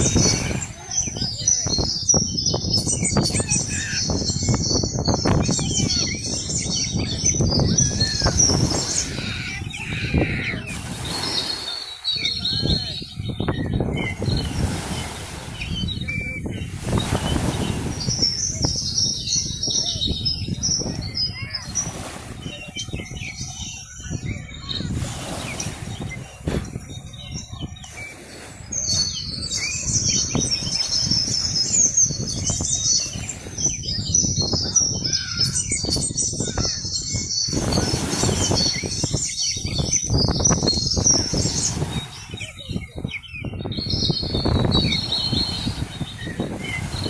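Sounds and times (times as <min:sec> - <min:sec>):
flock of small birds chirping: 0:00.0 - 0:47.0.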